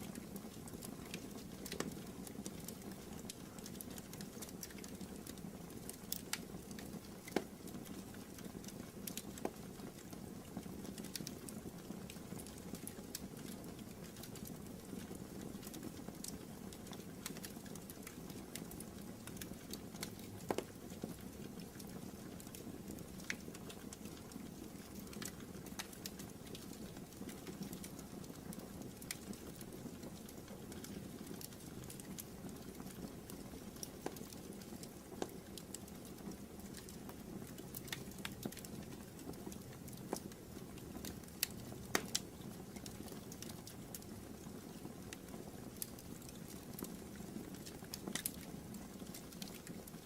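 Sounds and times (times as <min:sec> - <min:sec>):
fire crackles and sharp pops: 0:00.0 - 0:50.0.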